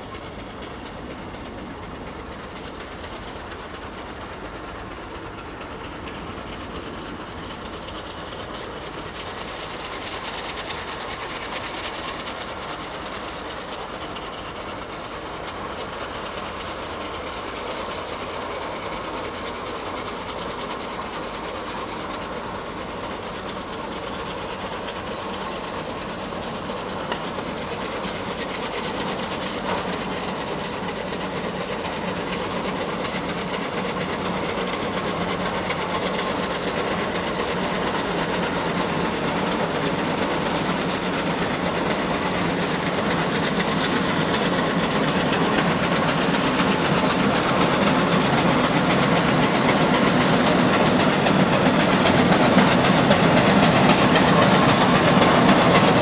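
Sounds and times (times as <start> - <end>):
steam engine exhaust chuffing: 0.0 - 56.0.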